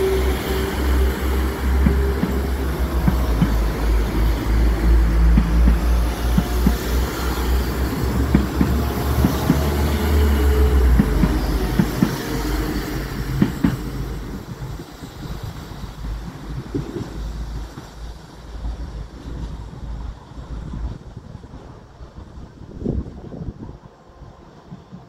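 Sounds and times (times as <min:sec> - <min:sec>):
train engine and wheel rumble: 0:00.0 - 0:25.0.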